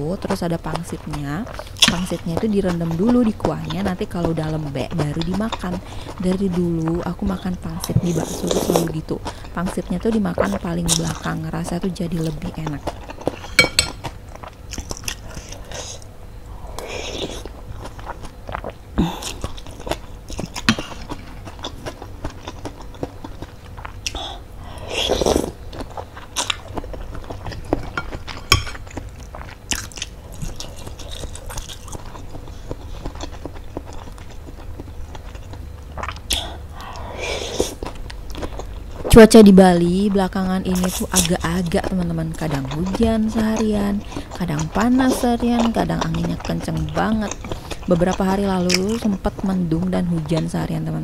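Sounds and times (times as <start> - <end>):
chewing and slurping noodles: 0.0 - 39.3, 40.2 - 51.0.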